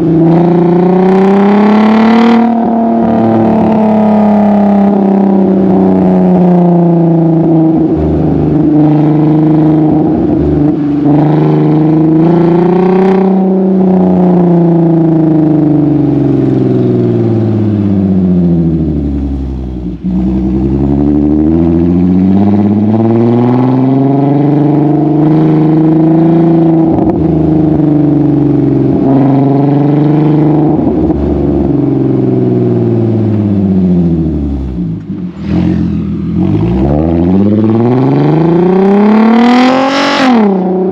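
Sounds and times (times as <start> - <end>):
car exhaust engine note: 0.0 - 40.9.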